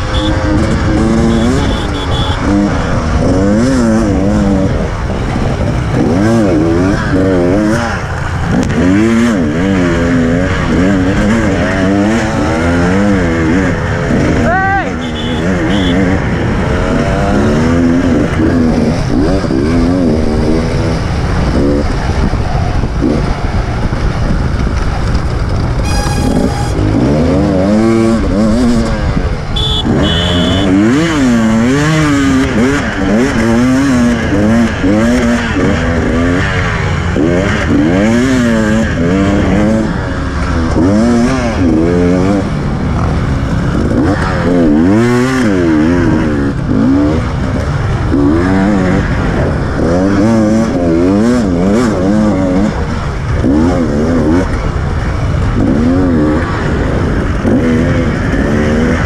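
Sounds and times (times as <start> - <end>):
two-stroke motorcycle engine revving: 0.0 - 59.0.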